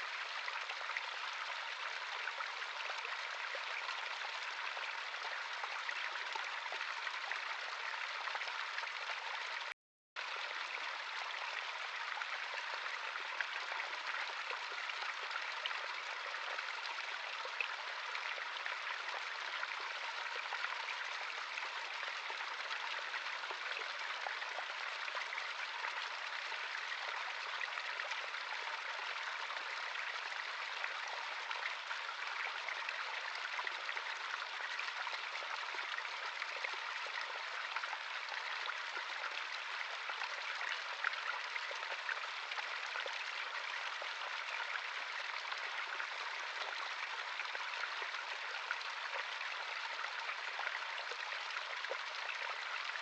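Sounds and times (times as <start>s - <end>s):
small stream trickling: 0.0s - 53.0s.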